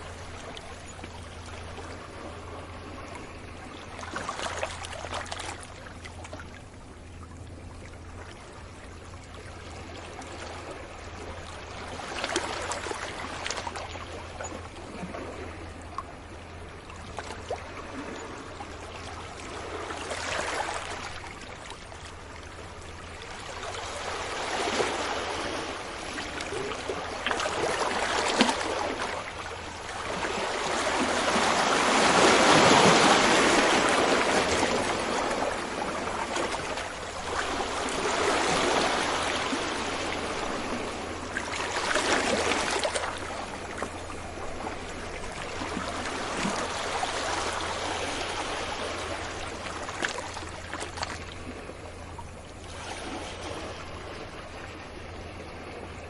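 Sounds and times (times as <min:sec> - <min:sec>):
ocean waves breaking on beach: 0:00.0 - 0:06.7, 0:09.4 - 0:56.0.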